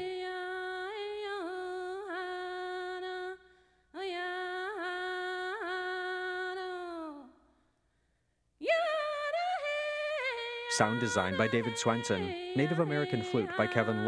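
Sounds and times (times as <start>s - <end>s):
woman singing without words: 0.0s - 7.4s, 8.6s - 14.0s.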